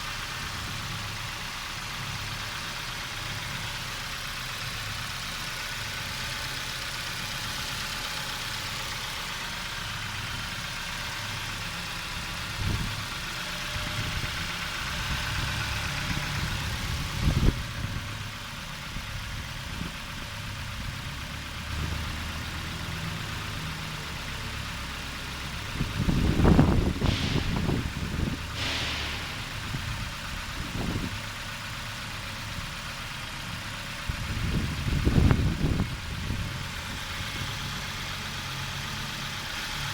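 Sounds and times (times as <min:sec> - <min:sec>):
car engine idling: 0:00.0 - 0:39.9
engine knocks: 0:00.0 - 0:39.9
loud engine clatter: 0:00.0 - 0:39.9.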